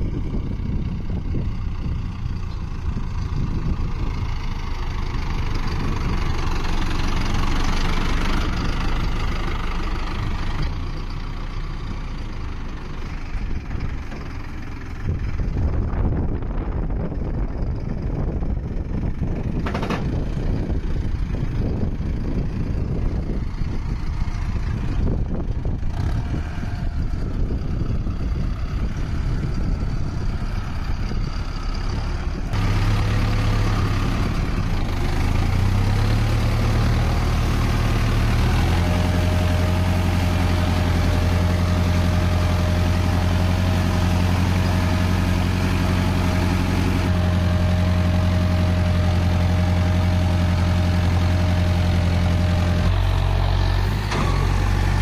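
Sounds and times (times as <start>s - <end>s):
tractor diesel engine droning: 0.0s - 55.0s
wind noise: 0.0s - 55.0s.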